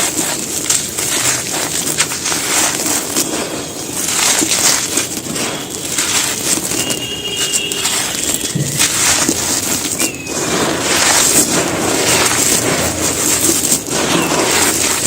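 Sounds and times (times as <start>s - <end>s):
cement crunching by hand: 0.0s - 15.0s.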